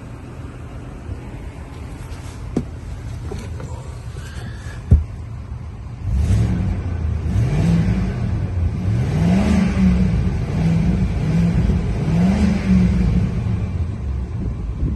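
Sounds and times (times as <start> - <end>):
van engine revving: 0.0 - 14.9.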